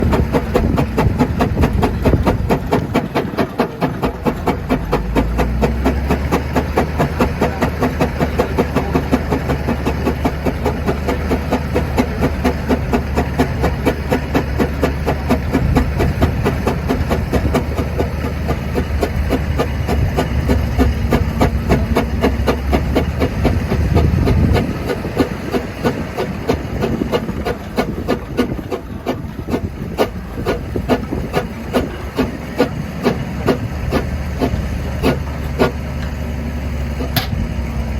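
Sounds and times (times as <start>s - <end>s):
steam engine exhaust beats: 0.0s - 37.9s.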